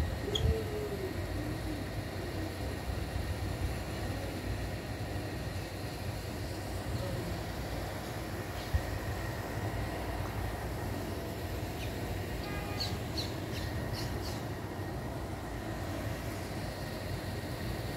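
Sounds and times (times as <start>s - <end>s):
low outdoor rumble: 0.0s - 17.9s.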